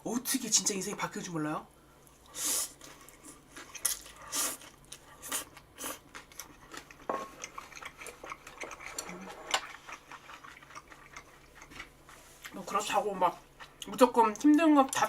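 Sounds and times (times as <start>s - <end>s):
chewing and crunching food: 2.1s - 15.0s.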